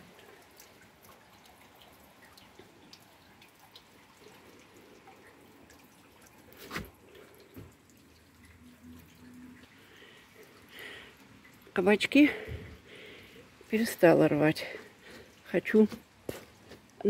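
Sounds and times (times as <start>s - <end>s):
light rain dripping: 0.0s - 17.0s.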